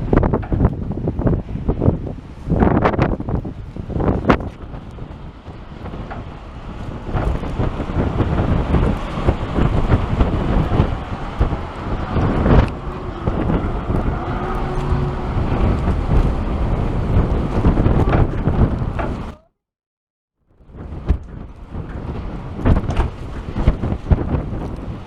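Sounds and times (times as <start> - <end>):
gusty wind buffeting microphone: 0.0 - 19.5, 20.5 - 25.0.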